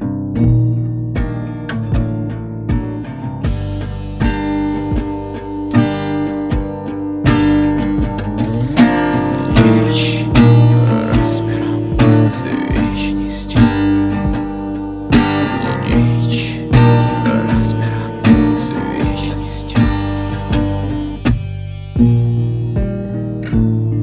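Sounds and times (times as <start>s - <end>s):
steady beat: 0.0s - 24.0s
strummed acoustic guitar: 0.0s - 24.0s.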